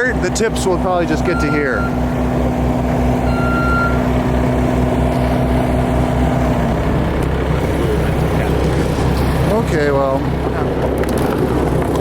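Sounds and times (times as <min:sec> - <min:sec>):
heavy engine throbbing: 0:00.0 - 0:12.0.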